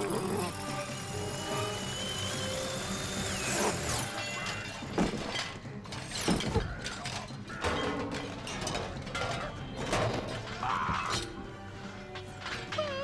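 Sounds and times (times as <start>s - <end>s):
mechanical grinding and clattering: 0.0s - 10.6s.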